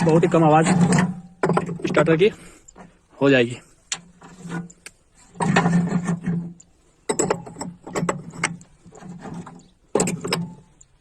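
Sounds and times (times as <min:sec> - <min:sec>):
contactor clacking and rattling: 0:00.0 - 0:03.0, 0:04.0 - 0:11.0.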